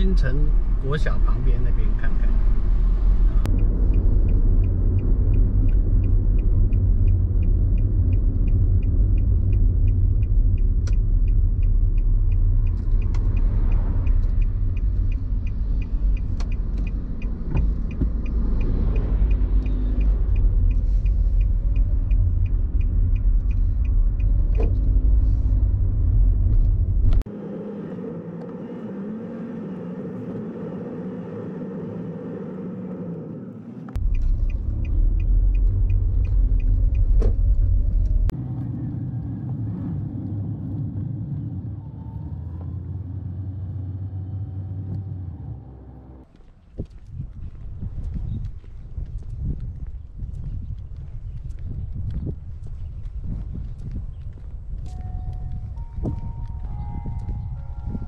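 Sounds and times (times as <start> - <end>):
car driving low rumble: 0.0 - 58.0.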